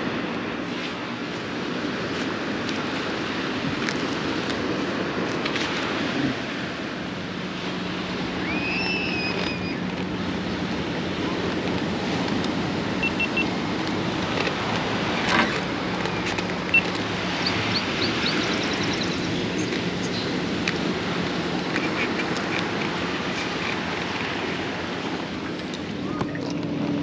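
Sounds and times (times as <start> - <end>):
wind on microphone: 0.0 - 27.0
motorcycle engine hum: 1.0 - 27.0.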